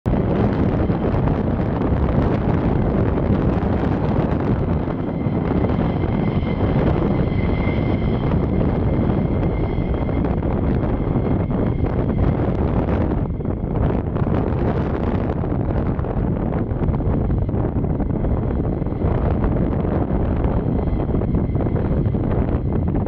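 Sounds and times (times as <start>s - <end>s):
wind rumble on microphone: 0.0s - 23.0s
jet engine turbine whine: 0.1s - 23.0s.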